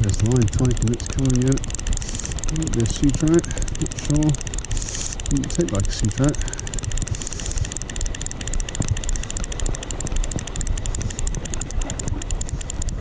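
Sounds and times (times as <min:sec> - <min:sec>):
fast even ticking: 0:00.0 - 0:13.0.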